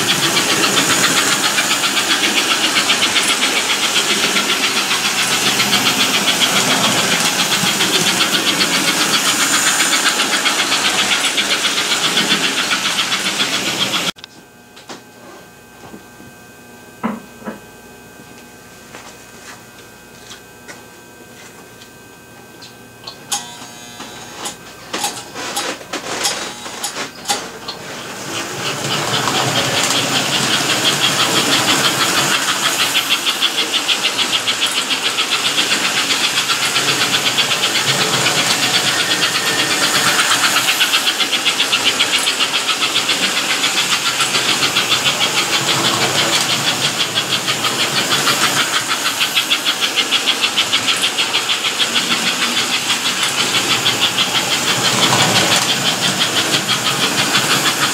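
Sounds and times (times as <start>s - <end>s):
toy train clicks: 0.0s - 14.1s, 25.0s - 57.9s
toy train motor whirring: 0.0s - 14.2s, 23.3s - 57.9s.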